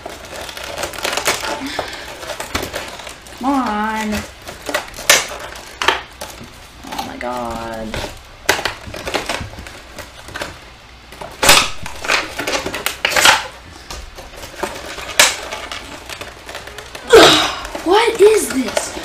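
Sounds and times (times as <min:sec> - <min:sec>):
packaging cracking and scraping: 0:00.0 - 0:19.0.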